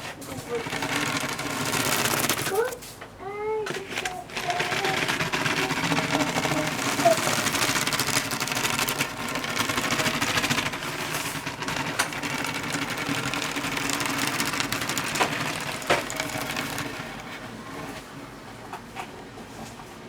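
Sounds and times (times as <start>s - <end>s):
plastic parts rattling: 0.3s - 2.8s, 3.7s - 17.5s.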